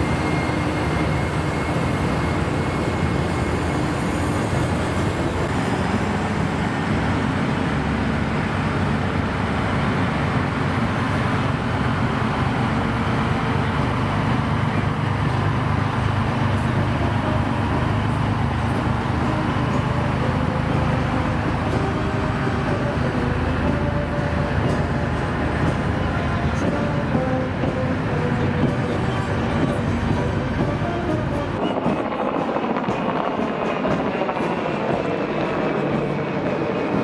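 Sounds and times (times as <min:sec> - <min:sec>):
diesel truck engines droning: 0:00.0 - 0:37.0.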